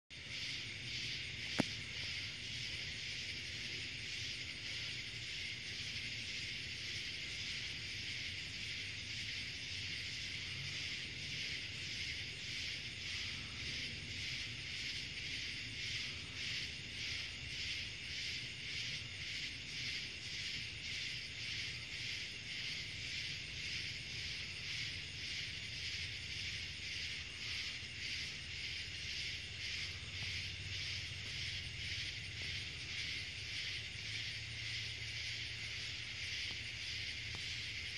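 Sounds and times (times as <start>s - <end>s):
crickets chirping: 0.1s - 37.9s.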